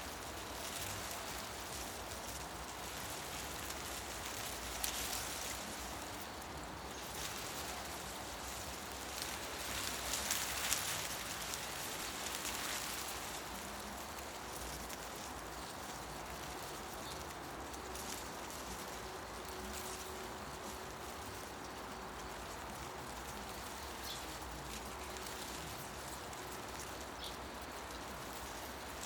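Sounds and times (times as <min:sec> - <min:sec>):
wind rustling tree leaves: 0:00.0 - 0:29.0.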